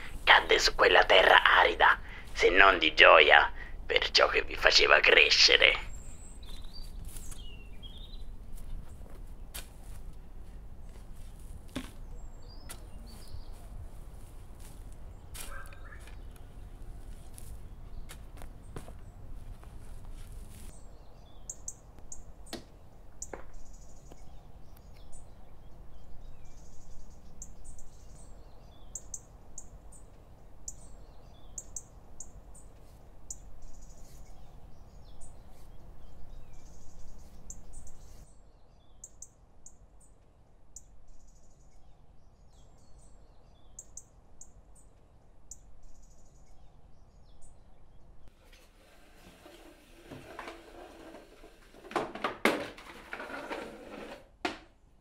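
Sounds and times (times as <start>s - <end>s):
small birds chirping: 0.0s - 48.4s.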